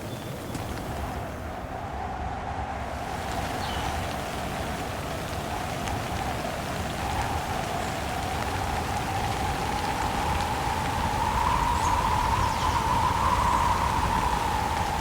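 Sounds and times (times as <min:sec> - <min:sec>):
wind howling: 0:00.0 - 0:15.0
heavy rain: 0:02.8 - 0:15.0.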